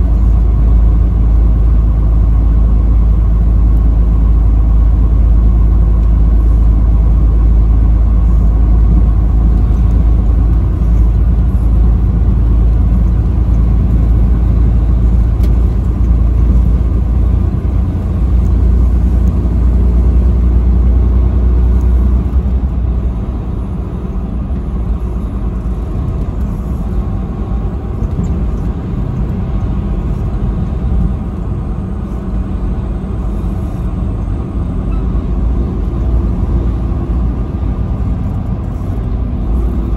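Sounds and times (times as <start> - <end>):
vehicle driving on highway: 0.0 - 39.9.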